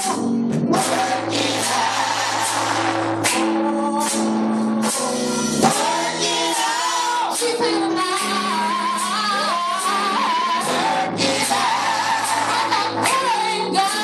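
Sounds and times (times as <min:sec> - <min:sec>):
live instrumental accompaniment: 0:00.0 - 0:14.0
women singing gospel: 0:00.0 - 0:14.0.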